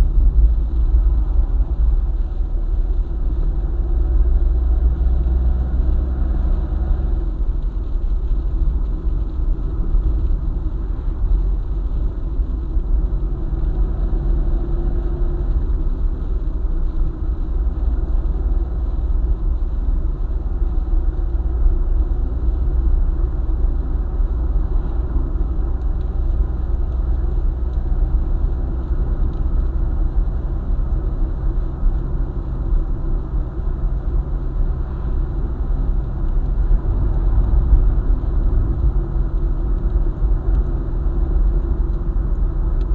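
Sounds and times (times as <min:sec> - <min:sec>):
car driving on highway: 0:00.0 - 0:42.9.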